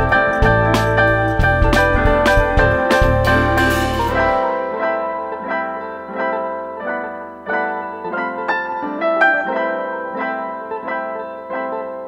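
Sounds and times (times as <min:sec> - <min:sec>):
piano playing chords: 0:00.0 - 0:12.0.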